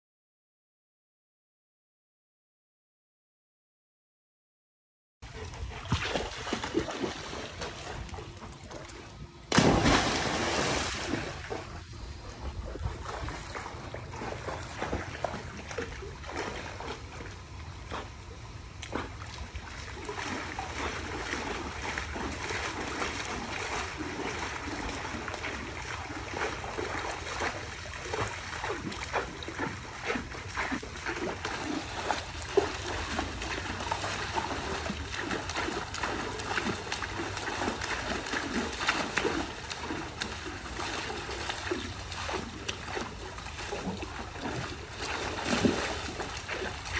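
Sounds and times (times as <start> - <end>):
dogs splashing in water: 5.2 - 46.9.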